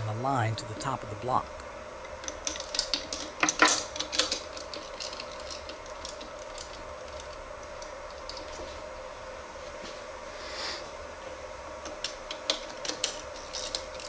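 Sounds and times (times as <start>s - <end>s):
machine whine: 0.0s - 14.0s.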